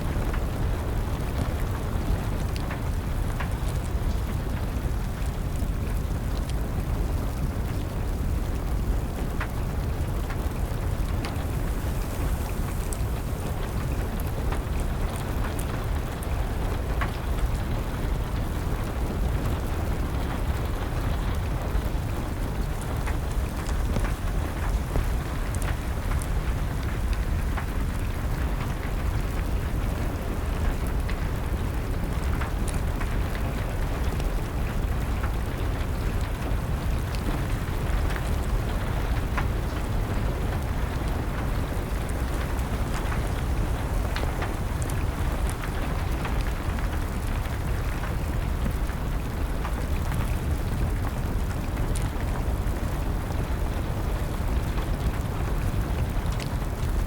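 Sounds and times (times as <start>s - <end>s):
steady rain: 0.0s - 57.0s
wood fire crackling: 0.0s - 57.0s.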